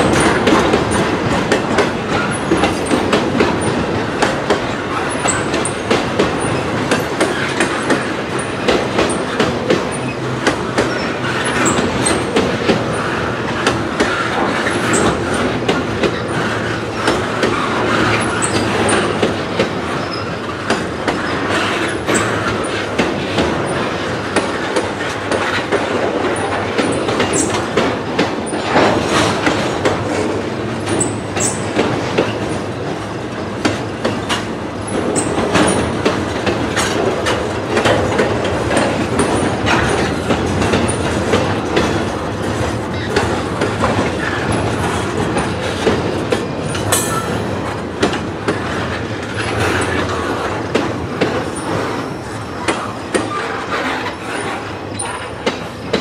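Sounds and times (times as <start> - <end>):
train wheels clicking over joints: 0.0 - 56.0.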